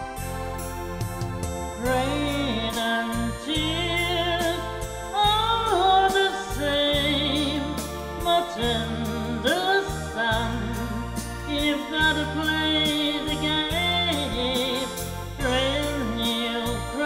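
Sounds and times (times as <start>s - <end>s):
recorded backing track: 0.0s - 17.0s
woman singing: 1.8s - 17.0s.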